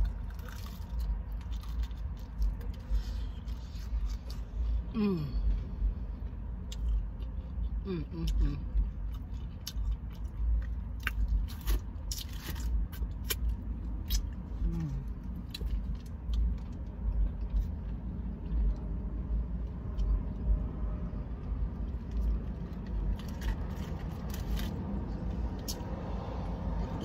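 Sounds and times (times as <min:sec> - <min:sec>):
low rumble inside car: 0:00.0 - 0:27.0.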